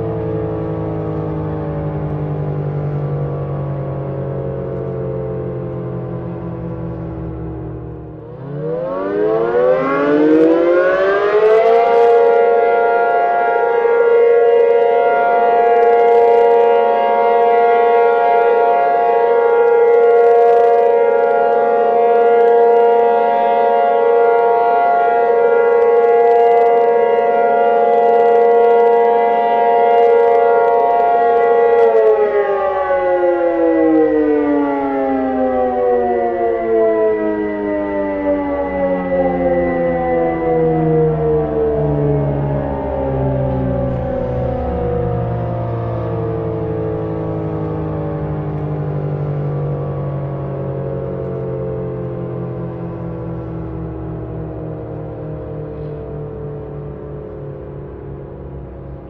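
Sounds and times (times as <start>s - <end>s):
tornado warning siren: 0.0s - 59.0s.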